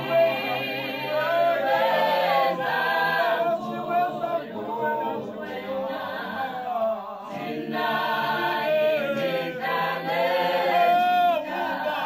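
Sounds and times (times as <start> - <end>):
women's choir singing unaccompanied: 0.0 - 12.0.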